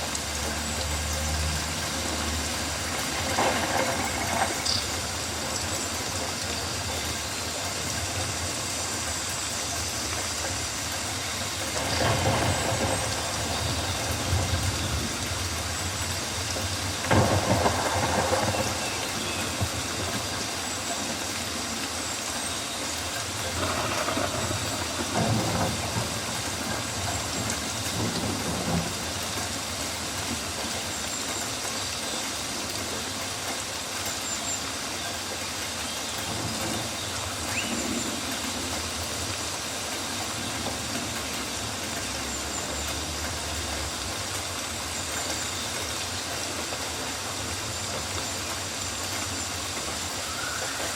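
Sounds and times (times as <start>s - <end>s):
rain on foliage: 0.0s - 50.9s.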